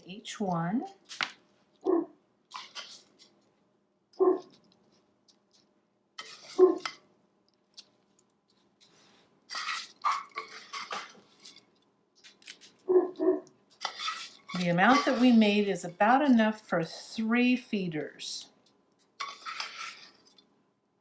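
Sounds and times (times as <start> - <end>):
spoon scraping sticky mixture: 2.4 - 20.5.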